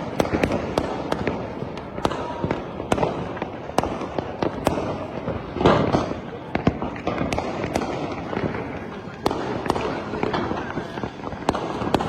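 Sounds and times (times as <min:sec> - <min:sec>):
distant firework bangs: 0:00.0 - 0:12.0
firecrackers cracking: 0:00.0 - 0:12.0.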